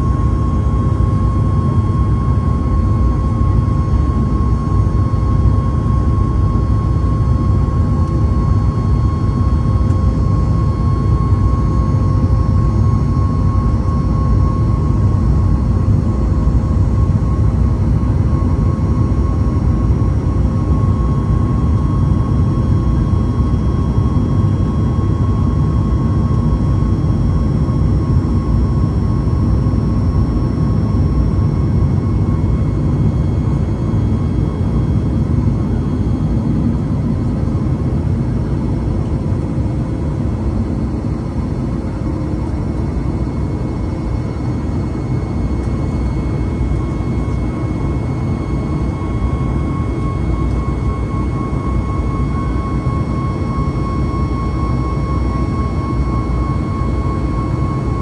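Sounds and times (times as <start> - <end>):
constant cabin hum: 0.0 - 58.0
jet engine deep rumble: 0.0 - 58.0.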